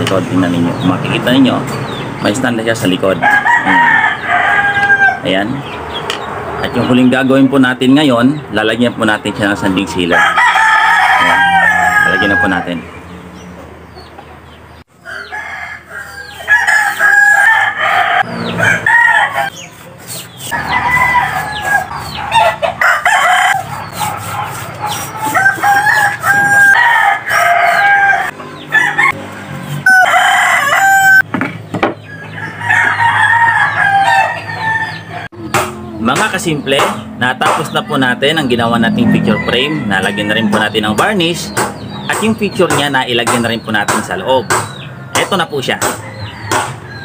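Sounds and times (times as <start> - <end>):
chickens clucking: 0.0 - 47.0
roosters crowing: 0.4 - 47.0.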